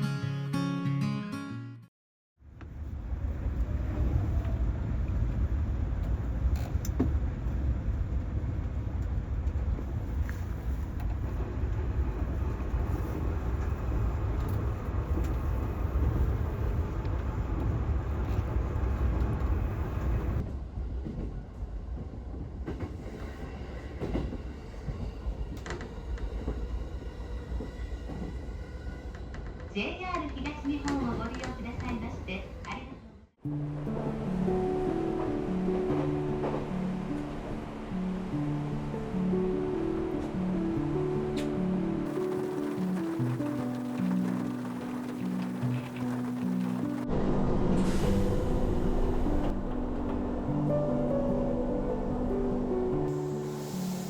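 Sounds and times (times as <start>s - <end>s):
train rumble and rail noise: 2.4s - 54.0s.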